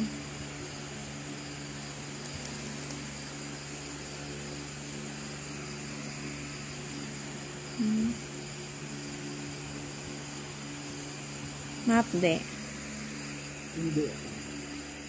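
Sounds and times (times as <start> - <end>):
even hiss: 0.0 - 15.0
steady background hum: 0.0 - 15.0.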